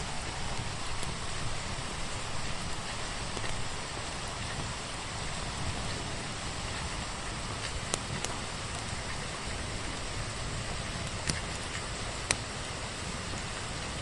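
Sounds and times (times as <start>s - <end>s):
wood fire crackling: 0.0s - 12.6s
rain falling: 0.0s - 14.0s.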